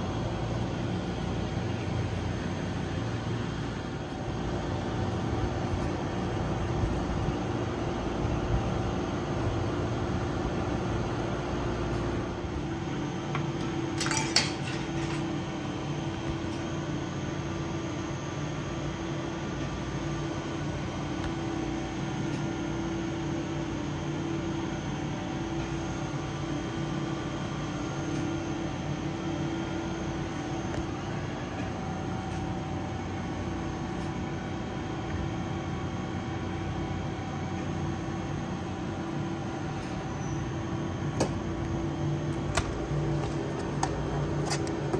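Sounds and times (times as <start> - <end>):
vending machines humming: 0.0 - 44.9.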